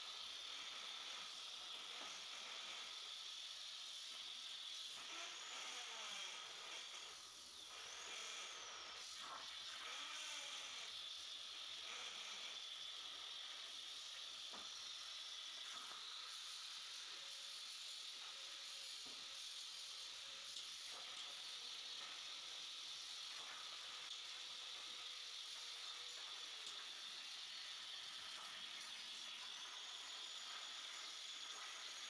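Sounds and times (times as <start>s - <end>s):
plasma torch hissing: 0.0s - 32.0s.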